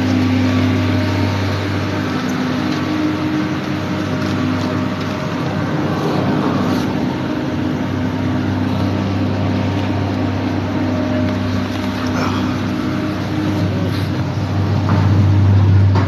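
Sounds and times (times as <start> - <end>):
chairlift machinery humming: 0.0 - 16.0.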